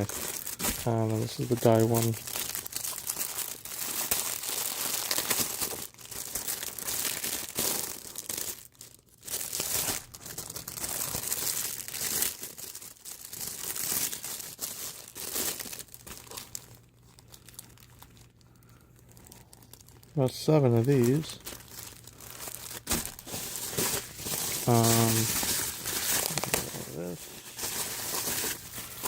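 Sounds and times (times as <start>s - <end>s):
plastic wrapping crinkling and tearing: 0.0s - 29.0s.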